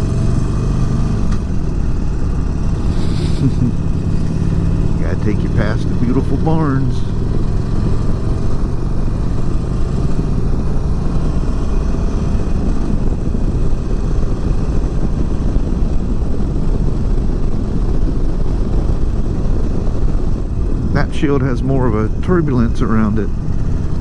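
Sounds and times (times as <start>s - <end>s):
motorcycle engine running: 0.0s - 24.0s
wind rush on microphone: 0.0s - 24.0s.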